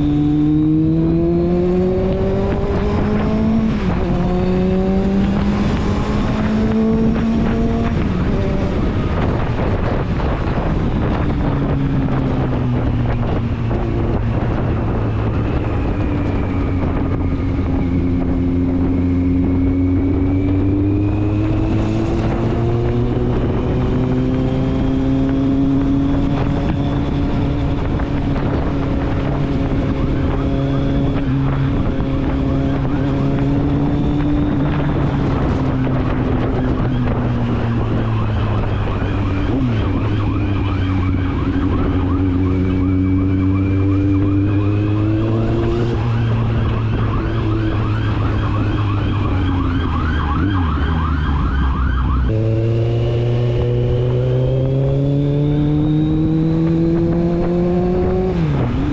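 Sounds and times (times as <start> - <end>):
motorcycle engine and exhaust running: 0.0 - 58.9
wind on the microphone: 0.0 - 58.9.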